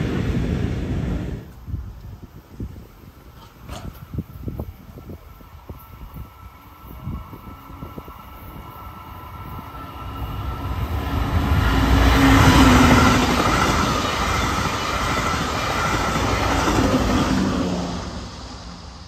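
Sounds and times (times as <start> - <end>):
diesel locomotive engine hum: 0.0 - 19.0
train wheels rumbling on rails: 0.0 - 19.0.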